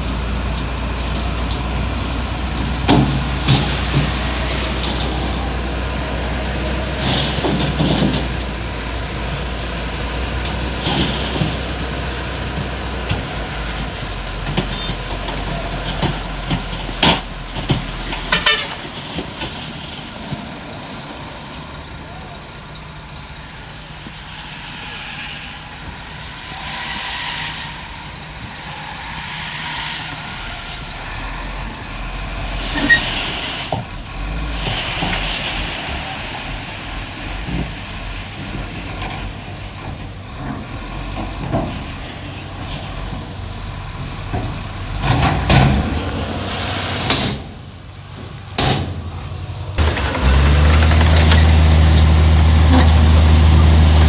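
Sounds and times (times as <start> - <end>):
knocks and clatter: 0.0 - 21.9, 29.7 - 53.9
diesel construction machinery running: 0.0 - 54.0.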